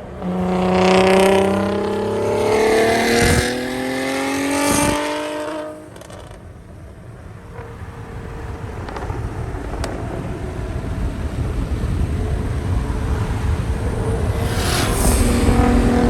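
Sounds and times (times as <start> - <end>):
car engine: 0.0 - 16.0
road rumble: 0.0 - 16.0.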